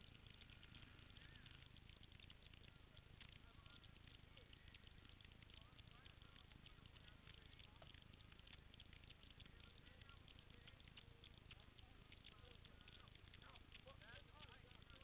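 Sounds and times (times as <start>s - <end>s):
soft clicks: 0.0s - 15.0s.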